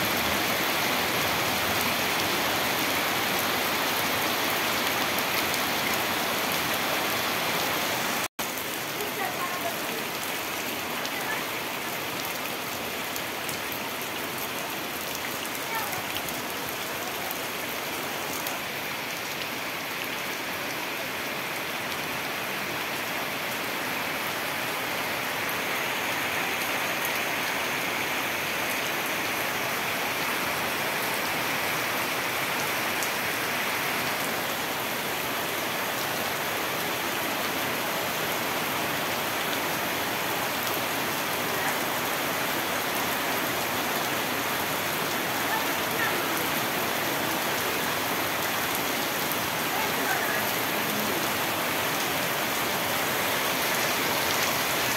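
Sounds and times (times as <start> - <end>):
heavy rain on tree leaves: 0.0 - 54.9.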